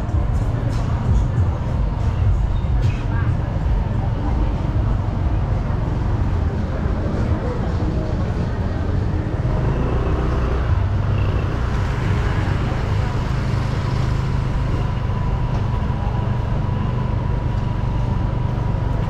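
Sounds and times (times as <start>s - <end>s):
vehicle engines humming: 0.0s - 19.0s.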